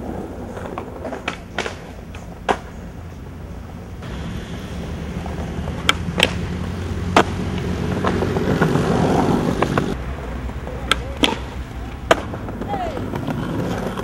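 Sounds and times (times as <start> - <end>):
skateboard clacks: 0.0 - 3.8, 4.4 - 6.5, 7.1 - 14.0
skateboard wheels rolling on concrete: 0.0 - 14.0.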